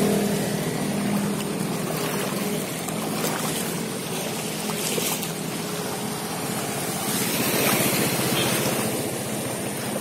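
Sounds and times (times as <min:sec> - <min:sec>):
motorcycle engines running: 0:00.0 - 0:10.0
water splashing: 0:00.0 - 0:10.0.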